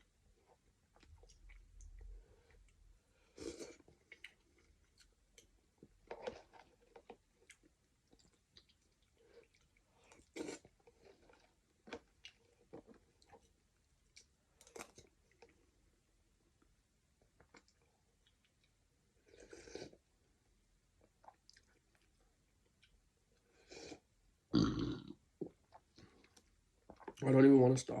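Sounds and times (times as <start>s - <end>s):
person chewing food: 0.3s - 15.8s, 17.2s - 20.0s, 21.0s - 24.1s, 24.8s - 27.2s.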